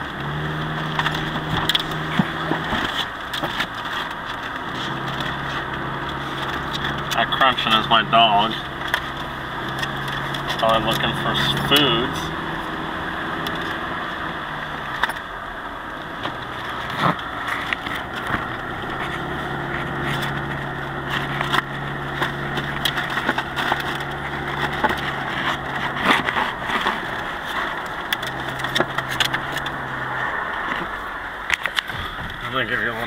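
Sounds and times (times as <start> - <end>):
car engine hum: 0.0 - 33.0
road noise: 0.0 - 33.0.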